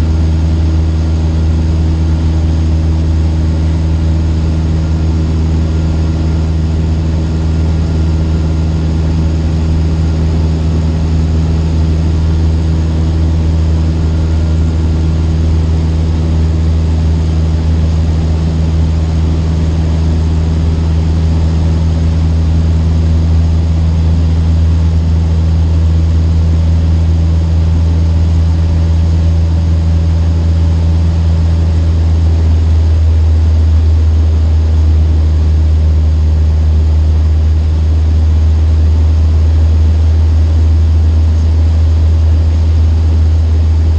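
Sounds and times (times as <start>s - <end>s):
propeller plane engine drone: 0.0s - 43.9s.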